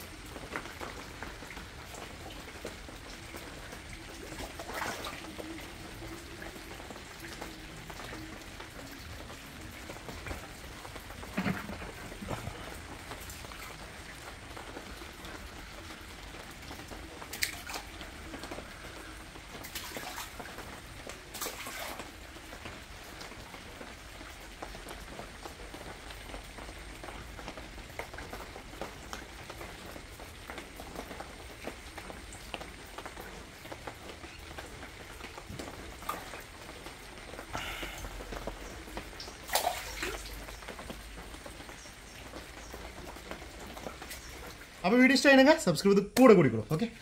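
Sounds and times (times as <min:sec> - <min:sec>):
water splashes: 0:00.0 - 0:45.6
water drips: 0:00.0 - 0:47.0
water pattering and trickling: 0:00.0 - 0:47.0.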